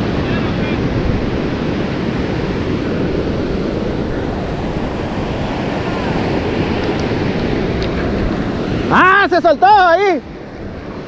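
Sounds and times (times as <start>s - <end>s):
surf rushing: 0.0s - 11.0s
wind buffeting microphone: 0.0s - 11.0s.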